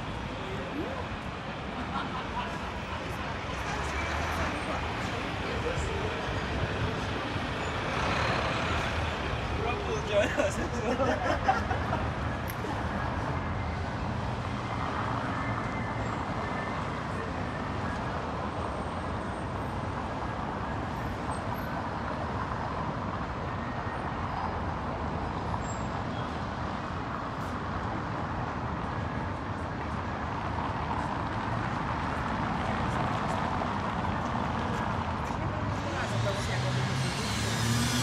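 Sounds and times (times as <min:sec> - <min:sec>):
road traffic noise: 0:00.0 - 0:38.0.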